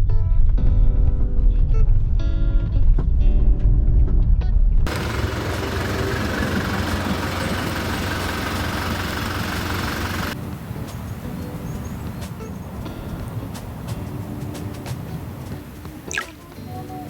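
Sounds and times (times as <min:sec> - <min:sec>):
road and wind noise: 0:00.0 - 0:17.0
vehicle rumble: 0:00.9 - 0:15.5.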